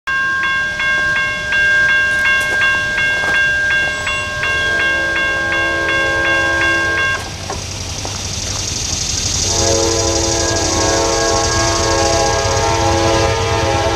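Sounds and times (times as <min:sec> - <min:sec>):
locomotive air horn chord: 0:00.1 - 0:07.4, 0:09.4 - 0:13.9
railroad crossing bell ringing: 0:00.1 - 0:13.9.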